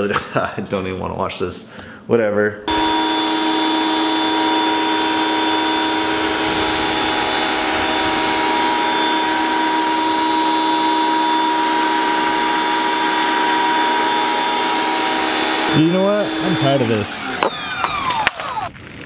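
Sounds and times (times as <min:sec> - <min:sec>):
pressure washer motor whining: 0:02.7 - 0:18.7.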